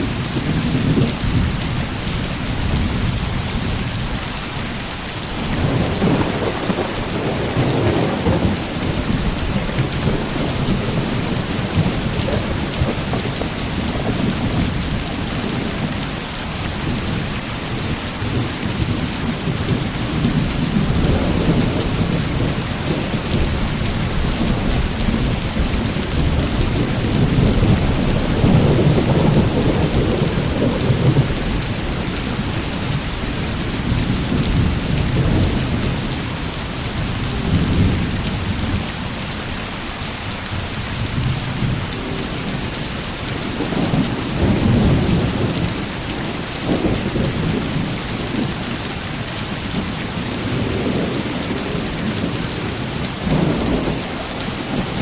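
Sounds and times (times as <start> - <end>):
heavy rain pouring: 0.0 - 55.0
low rolling thunder: 5.4 - 39.0, 40.6 - 48.7, 49.6 - 55.0.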